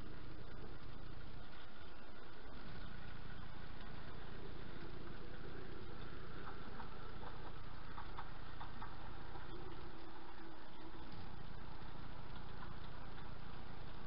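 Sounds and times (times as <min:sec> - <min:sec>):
model train rumbling: 0:00.0 - 0:14.0.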